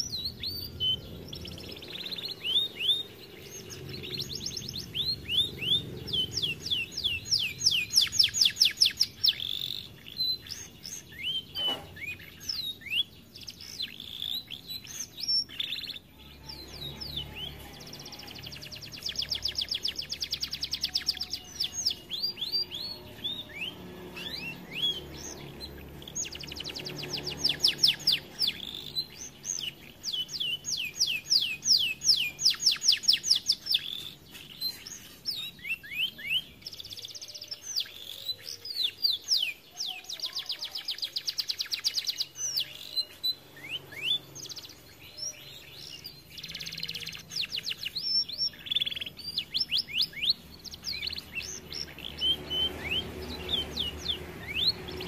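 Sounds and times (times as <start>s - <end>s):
canary trilling: 0.0s - 55.0s.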